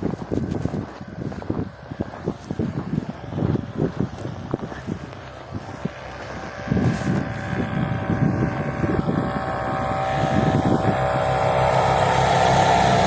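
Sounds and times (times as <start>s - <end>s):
airboat engine and propeller: 0.0s - 13.0s
wind buffeting microphone: 0.0s - 13.0s.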